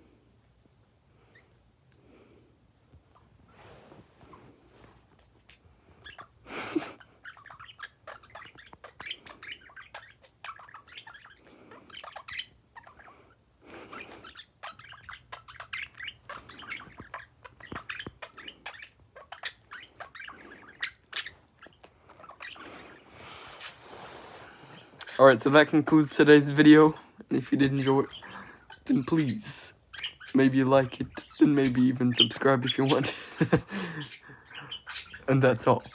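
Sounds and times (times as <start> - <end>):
pet birds chirping: 3.1 - 35.9.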